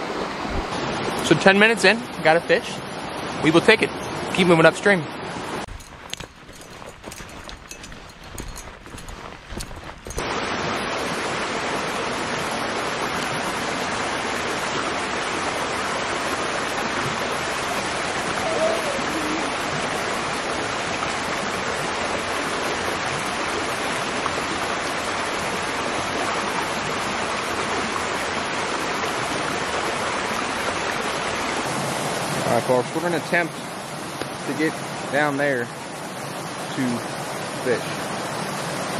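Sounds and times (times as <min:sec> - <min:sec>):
creek rushing over rocks: 0:00.0 - 0:38.9.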